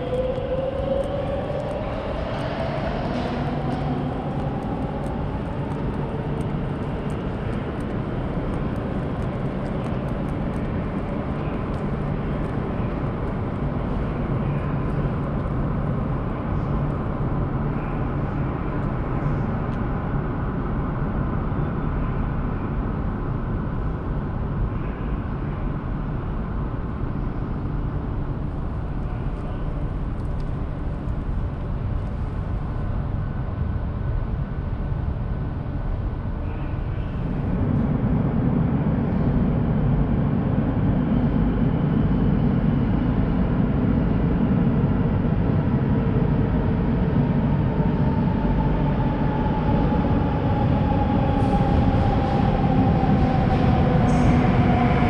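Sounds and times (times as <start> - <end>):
metro train rumbling: 0.0 - 55.0.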